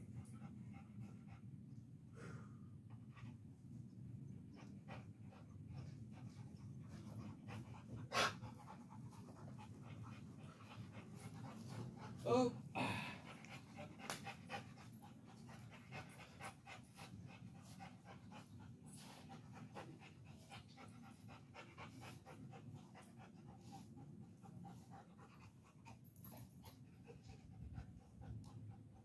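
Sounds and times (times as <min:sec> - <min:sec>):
dog panting: 0:00.0 - 0:02.1, 0:02.8 - 0:29.0.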